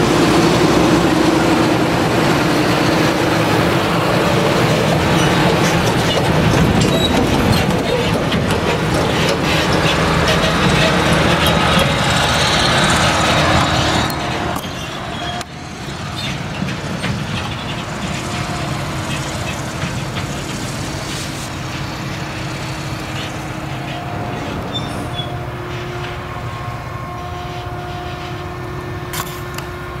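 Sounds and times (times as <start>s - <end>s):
tractor engine drone: 0.0s - 30.0s.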